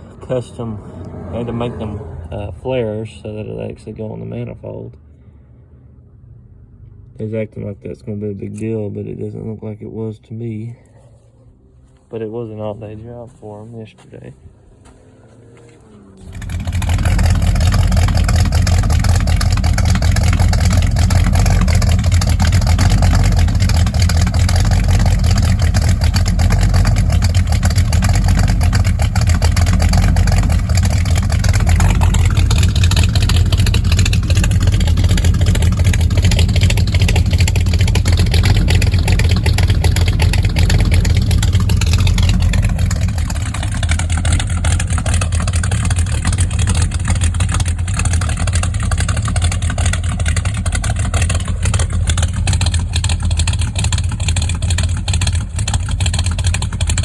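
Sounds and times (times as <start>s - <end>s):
loud car engine running: 0.0s - 7.3s, 11.8s - 57.0s.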